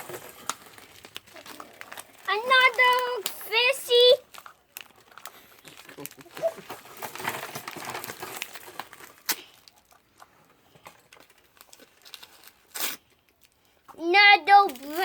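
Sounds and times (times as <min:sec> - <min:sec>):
plastic packaging crinkling: 0:00.0 - 0:13.9.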